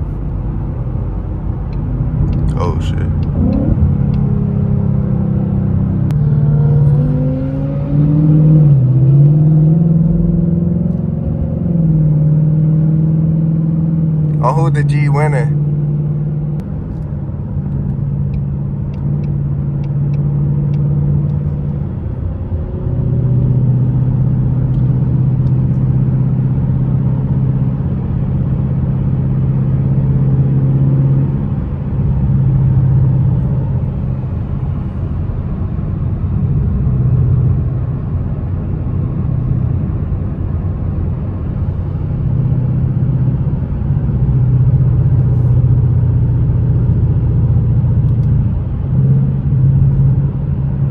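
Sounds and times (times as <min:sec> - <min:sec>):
car engine droning: 0:00.0 - 0:50.9.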